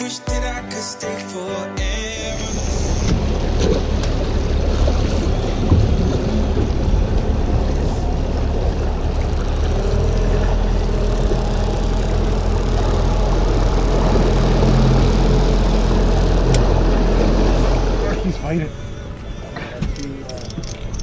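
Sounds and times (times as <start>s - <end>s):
outboard motor running: 2.1s - 21.0s
water churning: 2.2s - 21.0s.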